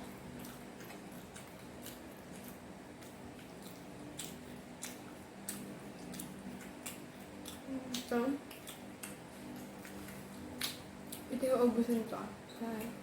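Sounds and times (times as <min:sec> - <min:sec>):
chewing and mouth sounds: 0:00.0 - 0:13.0
steady low hum: 0:00.0 - 0:13.0.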